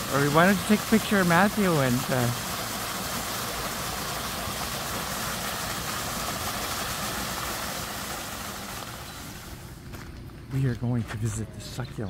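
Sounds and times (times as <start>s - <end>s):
waterfall rushing into pool: 0.0s - 9.8s.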